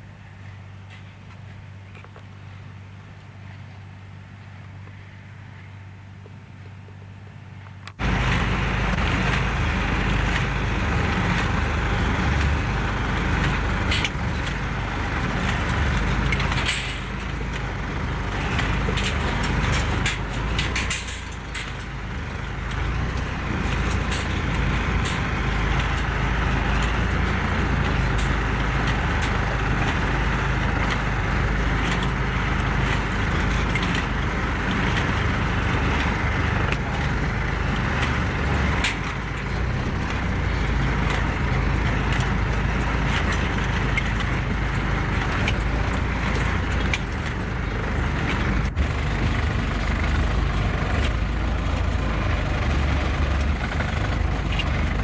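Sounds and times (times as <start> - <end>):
tractor engine under load: 0.0 - 55.0
hay baler clicks and knocks: 6.2 - 55.0.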